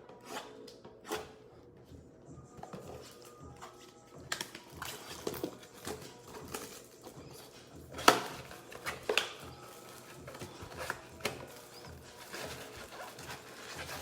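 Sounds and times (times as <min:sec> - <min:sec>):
card packs rustling and clicking: 0:02.6 - 0:14.0.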